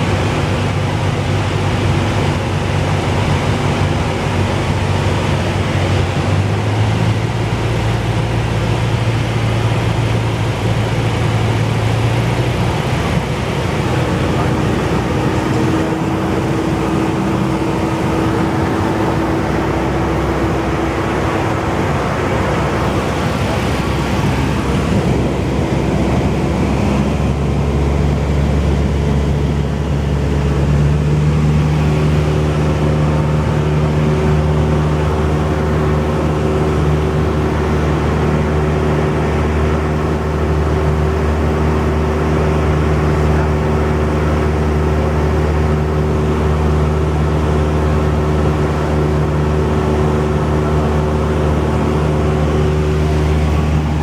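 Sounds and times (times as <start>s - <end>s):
lower hum: 0.0s - 54.0s
propeller plane engine drone: 0.0s - 54.0s.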